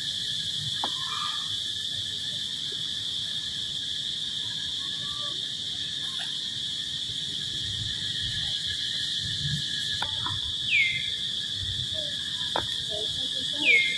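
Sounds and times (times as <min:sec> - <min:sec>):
high-pitched insect drone: 0:00.0 - 0:13.9.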